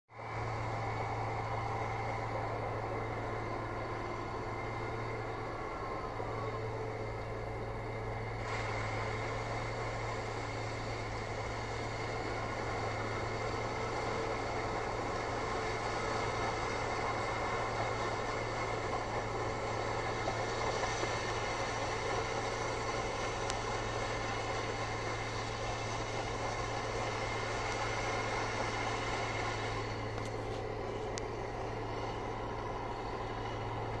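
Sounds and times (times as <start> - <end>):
heavy diesel machinery droning: 0.1 - 34.0.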